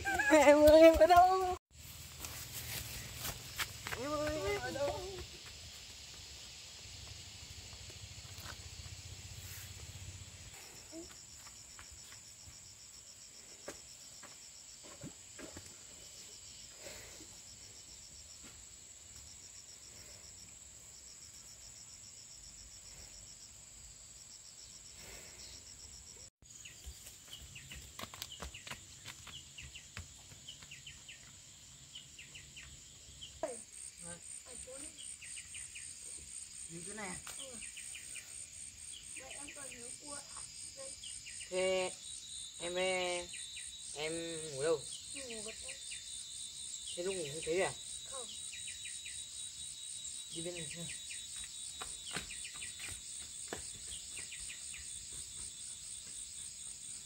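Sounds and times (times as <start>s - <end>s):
insects droning: 0.0s - 57.0s
pulsed insect chirping: 2.6s - 14.8s, 19.3s - 57.0s.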